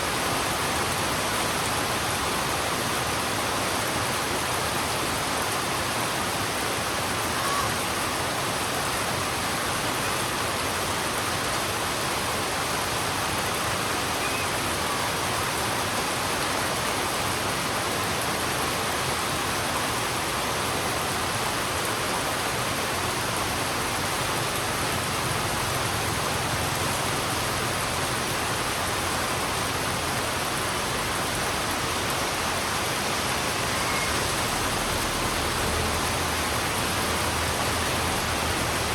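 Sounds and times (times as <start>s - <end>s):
heavy rain on a road: 0.0s - 38.9s.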